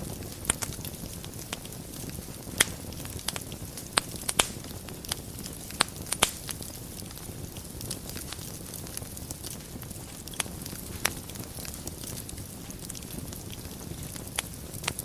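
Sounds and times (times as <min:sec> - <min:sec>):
sharp pops from fire: 0:00.0 - 0:15.0
wood fire crackling: 0:00.0 - 0:15.0.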